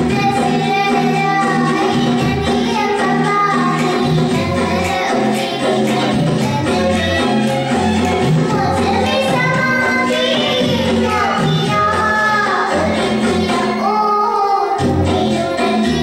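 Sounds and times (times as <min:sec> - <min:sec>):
girl singing into a microphone: 0:00.0 - 0:07.4, 0:08.0 - 0:16.0
backing track with bass line: 0:00.0 - 0:13.8, 0:14.8 - 0:16.0.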